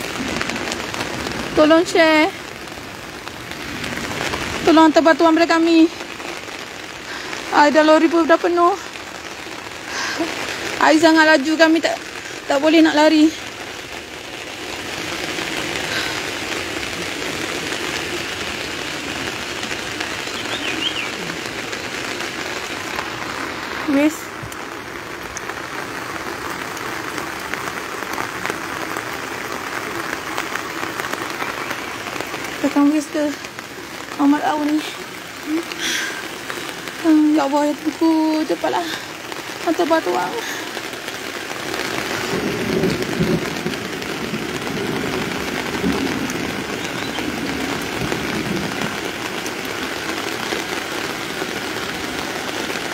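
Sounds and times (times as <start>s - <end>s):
heavy rain: 0.0s - 52.9s
raindrops ticking close by: 0.0s - 52.9s.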